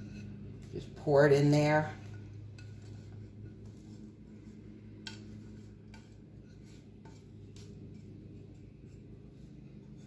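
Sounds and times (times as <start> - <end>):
spatula scraping saucepan: 0.0 - 10.0
steady low hum: 0.0 - 10.0.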